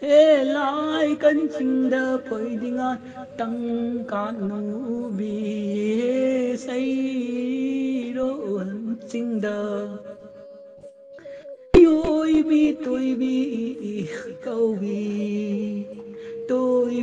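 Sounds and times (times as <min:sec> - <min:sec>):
person chanting a slow melody: 0:00.0 - 0:17.0.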